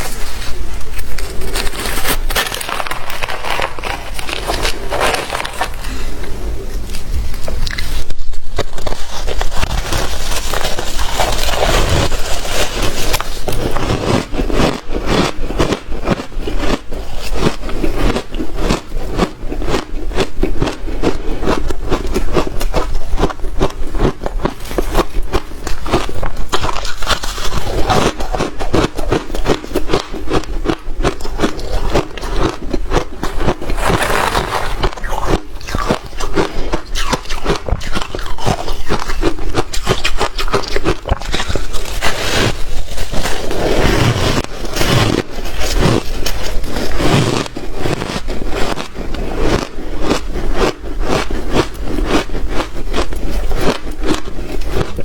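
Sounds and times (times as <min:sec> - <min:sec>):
shaved ice being chewed: 0:00.0 - 0:55.0.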